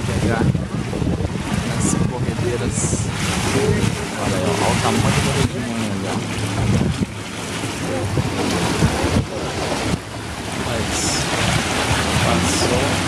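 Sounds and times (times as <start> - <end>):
motorboat engine running: 0.0 - 13.0
rushing churning water: 0.0 - 13.0
wind buffeting microphone: 0.0 - 13.0.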